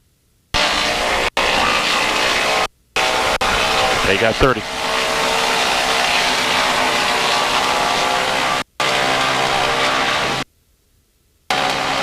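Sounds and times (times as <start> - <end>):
aircraft engines droning over intercom: 0.6 - 10.4.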